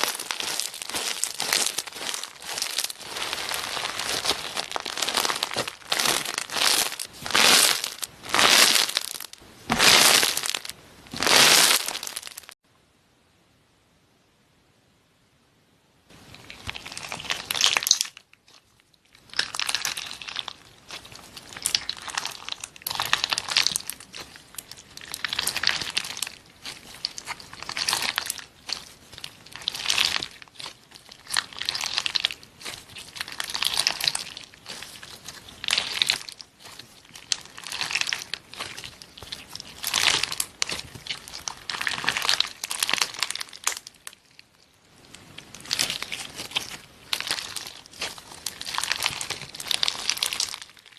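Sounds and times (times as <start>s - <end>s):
slime squishing: 0.0s - 12.6s, 16.2s - 50.9s.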